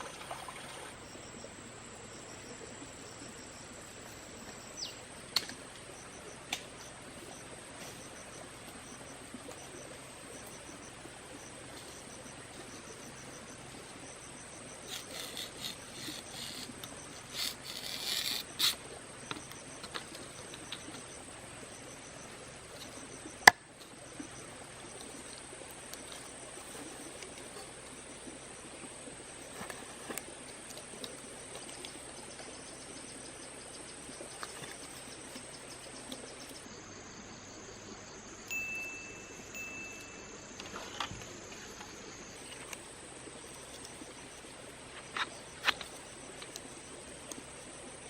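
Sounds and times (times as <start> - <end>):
insects buzzing and chirping: 0.0 - 48.0.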